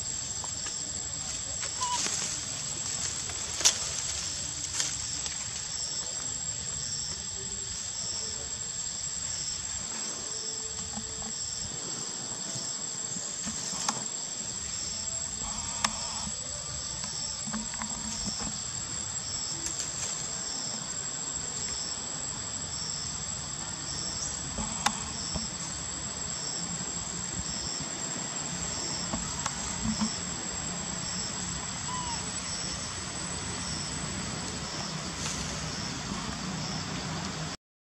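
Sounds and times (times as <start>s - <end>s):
insect chirping: 0.0s - 37.6s
insects buzzing: 0.0s - 37.6s.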